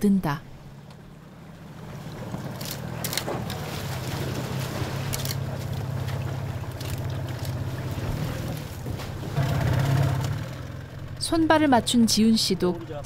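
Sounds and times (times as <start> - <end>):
boat motor idling: 0.5 - 13.0.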